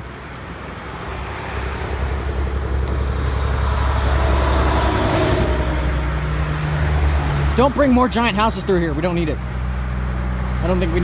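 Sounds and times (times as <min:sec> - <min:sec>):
truck diesel engine rumbling: 0:00.0 - 0:11.0
tyre and road noise: 0:00.0 - 0:11.0.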